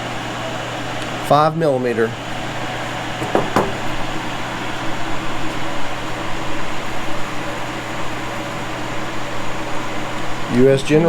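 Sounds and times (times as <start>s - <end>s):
steady background hum and hiss: 0.0s - 11.0s.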